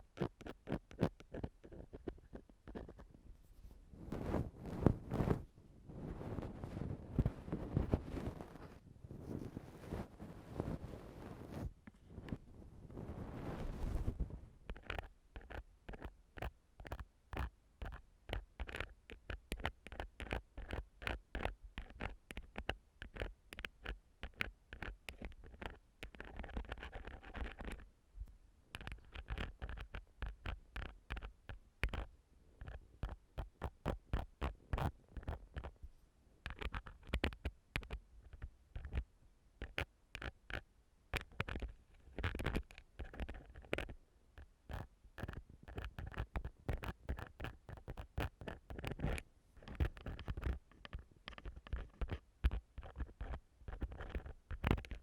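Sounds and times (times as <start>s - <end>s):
tool scratching on microphone: 0.1s - 18.9s, 19.6s - 27.9s, 28.7s - 35.8s, 41.2s - 43.9s, 44.7s - 55.0s.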